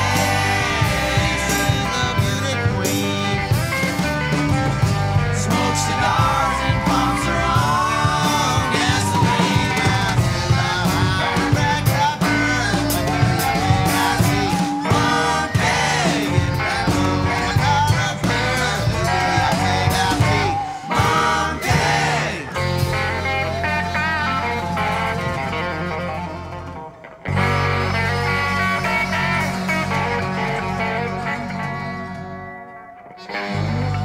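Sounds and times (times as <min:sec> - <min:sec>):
person singing: 0:00.0 - 0:04.2, 0:05.2 - 0:32.1
rock band playing: 0:00.0 - 0:34.0.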